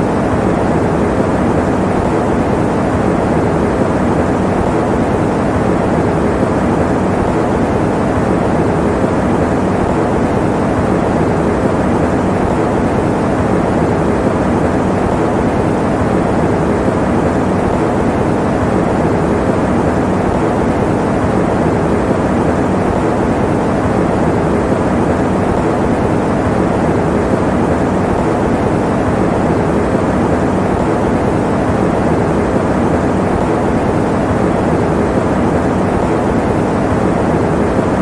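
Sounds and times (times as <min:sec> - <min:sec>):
electric fan running: 0:00.0 - 0:38.0.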